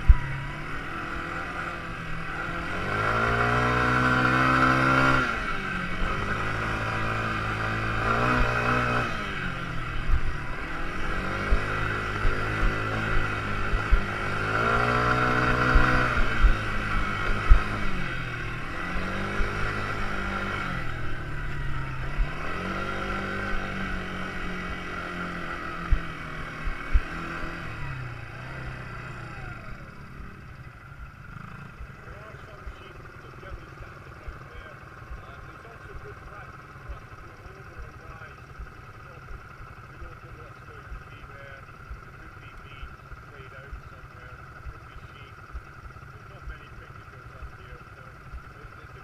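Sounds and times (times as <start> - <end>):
quad bike engine revving: 0.0 - 49.0.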